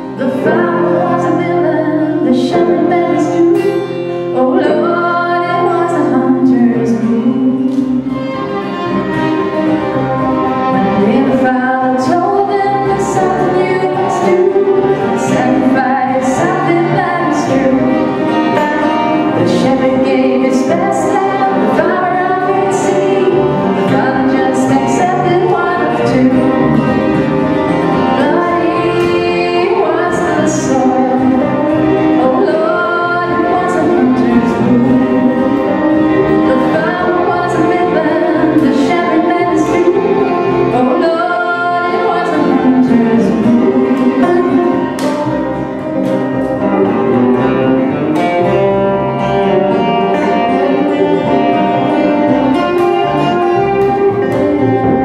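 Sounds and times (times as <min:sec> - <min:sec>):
woman singing folk song: 0:00.0 - 0:08.3, 0:10.5 - 0:46.8, 0:49.2 - 0:55.0
acoustic guitar: 0:00.0 - 0:55.0
banjo: 0:00.0 - 0:55.0
double bass: 0:00.0 - 0:55.0
fiddle: 0:00.0 - 0:55.0.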